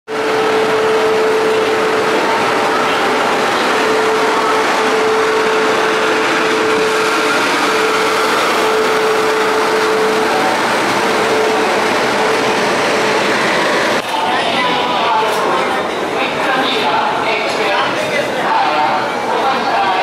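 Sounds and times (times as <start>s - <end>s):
train wheel and rail noise: 0.1s - 20.0s
train whine: 0.1s - 20.0s.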